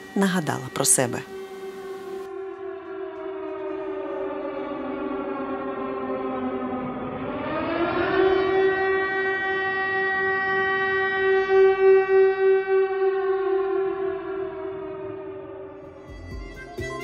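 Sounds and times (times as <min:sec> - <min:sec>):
air-raid siren wailing: 0:00.0 - 0:17.0.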